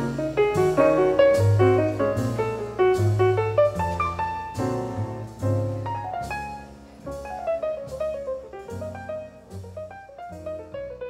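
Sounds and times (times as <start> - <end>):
jazz piano music: 0.0 - 11.0.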